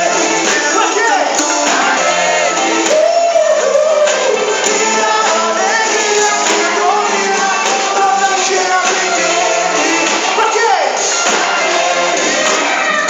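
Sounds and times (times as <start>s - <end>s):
person singing: 0.0s - 10.9s
band playing gospel: 0.0s - 13.0s.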